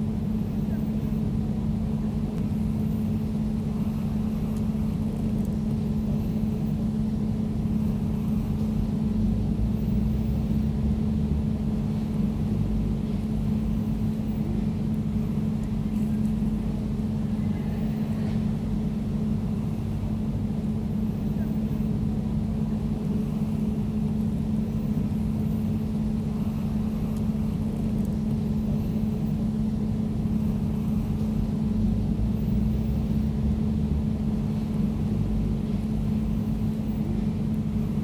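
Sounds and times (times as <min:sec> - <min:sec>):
air conditioner humming: 0:00.0 - 0:38.0.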